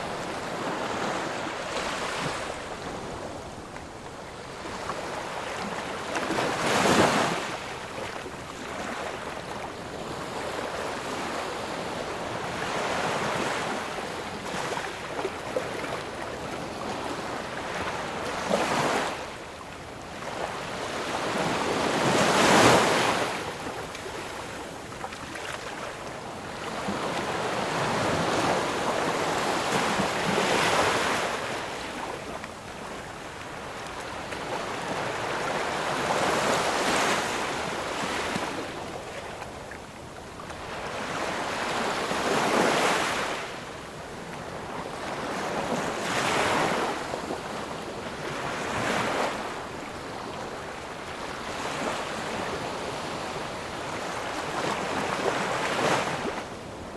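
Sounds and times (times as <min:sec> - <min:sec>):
waves breaking on a shore: 0:00.0 - 0:56.9.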